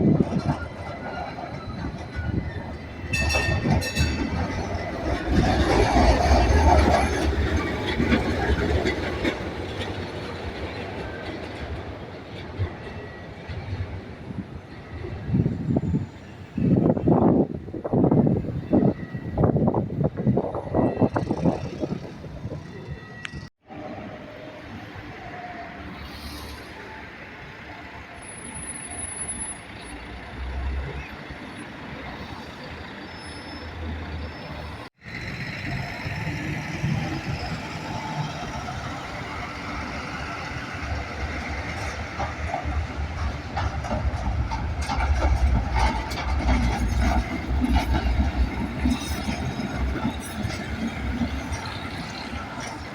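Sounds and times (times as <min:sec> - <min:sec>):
street traffic: 0:00.0 - 0:52.9
trams rumbling and rattling: 0:00.0 - 0:52.9.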